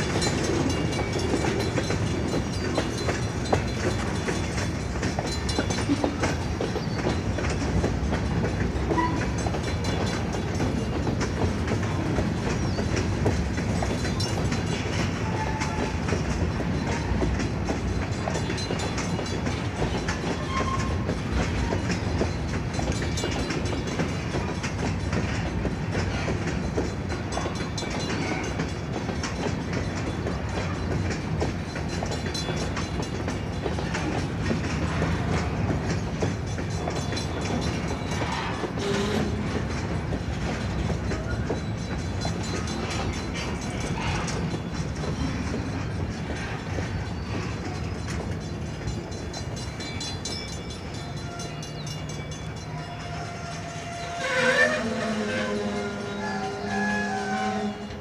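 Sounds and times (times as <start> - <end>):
train clanks: 0.0 - 58.0
train wheels rumbling on rails: 0.0 - 58.0.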